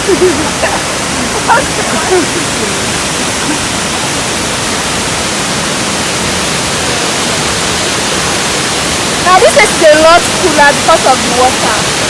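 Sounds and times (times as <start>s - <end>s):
waterfall crashing onto rocks: 0.0s - 12.0s.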